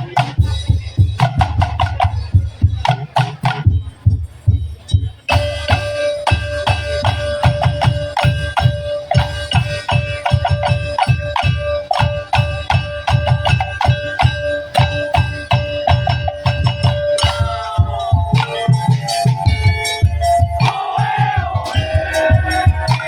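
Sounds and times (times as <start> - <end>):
strikes on bamboo slit drums: 0.0 - 4.1, 4.7 - 23.0
deep drum beats: 0.0 - 23.0.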